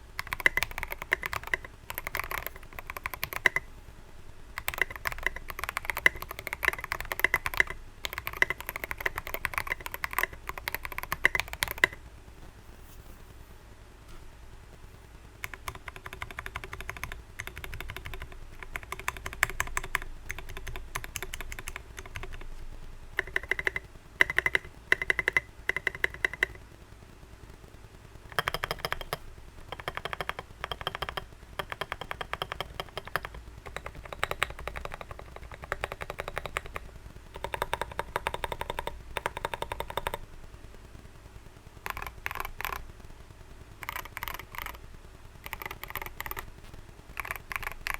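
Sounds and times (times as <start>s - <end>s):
mechanical keyboard typing: 0.0s - 3.7s, 4.5s - 12.0s, 15.4s - 26.6s, 28.3s - 40.3s, 41.8s - 42.9s, 43.8s - 44.8s, 45.4s - 46.5s, 47.1s - 47.9s.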